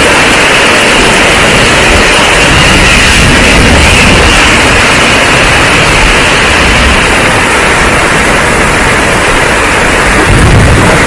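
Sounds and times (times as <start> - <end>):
heavy rain pouring: 0.0 - 11.0
low rumble: 0.0 - 11.0.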